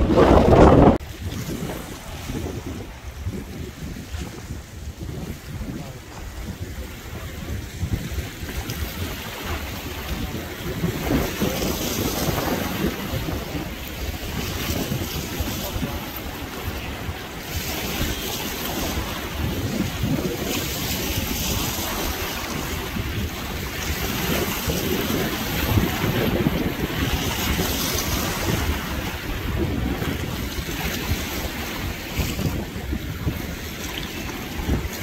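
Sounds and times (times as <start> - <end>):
rush of wind: 0.0 - 35.0
waves: 0.0 - 35.0
wind buffeting microphone: 0.0 - 35.0.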